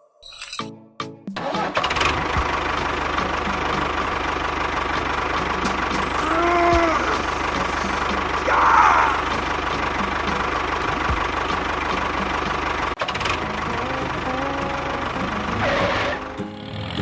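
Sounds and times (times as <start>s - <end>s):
small engine knocking: 1.8s - 8.5s, 9.2s - 17.0s.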